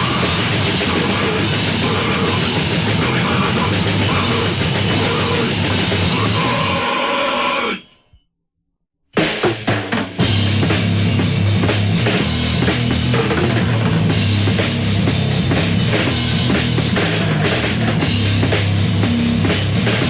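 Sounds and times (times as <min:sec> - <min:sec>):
drum kit beat: 0:00.0 - 0:06.8, 0:09.2 - 0:20.0
heavy rock band playing: 0:00.0 - 0:07.7, 0:09.2 - 0:20.0.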